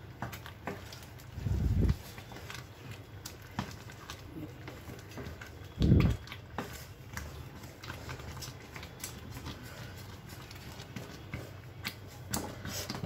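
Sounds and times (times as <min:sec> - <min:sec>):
spatula stirring in steel pan: 0:00.0 - 0:13.0.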